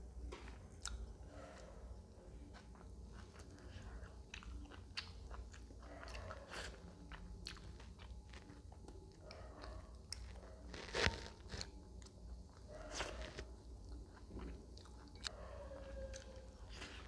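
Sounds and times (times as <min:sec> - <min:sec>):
person chewing crunchy food: 0:02.4 - 0:17.0.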